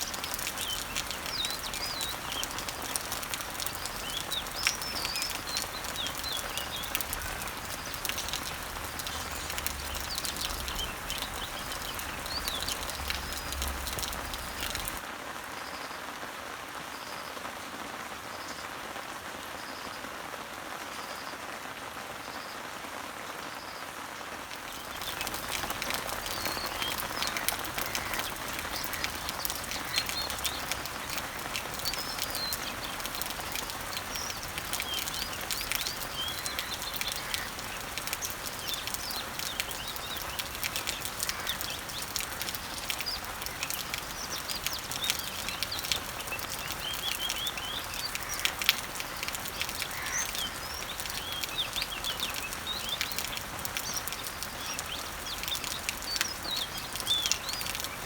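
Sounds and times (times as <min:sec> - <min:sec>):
birds chirping: 0:00.0 - 0:15.0, 0:24.5 - 0:58.0
rain pattering on leaves: 0:00.0 - 0:58.0.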